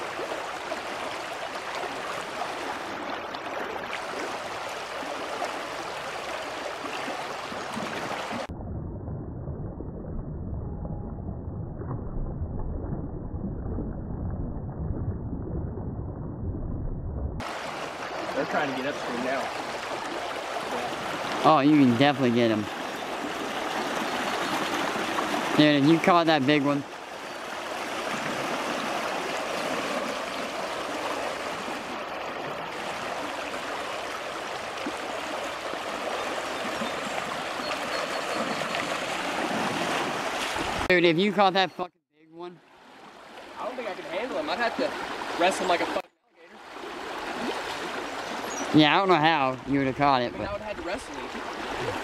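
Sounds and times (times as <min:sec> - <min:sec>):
creek water over gravel: 0:00.0 - 0:08.5, 0:17.4 - 0:41.6, 0:42.4 - 0:52.0
low rumble of flowing stream: 0:00.0 - 0:52.0.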